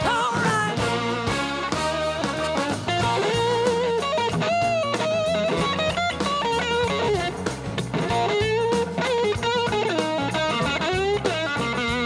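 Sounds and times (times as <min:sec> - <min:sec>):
electric guitar lead: 0:00.0 - 0:12.0
live rock band playing: 0:00.0 - 0:12.0.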